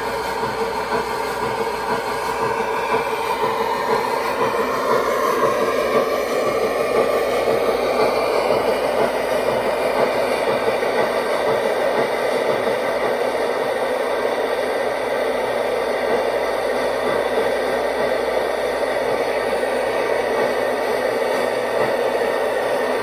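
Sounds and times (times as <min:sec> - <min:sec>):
model steam locomotive hissing whir: 0:00.0 - 0:23.0.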